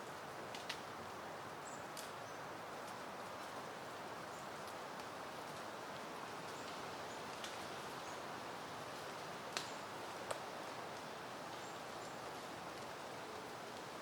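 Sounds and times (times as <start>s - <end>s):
wind rustling leaves: 0.0s - 14.0s.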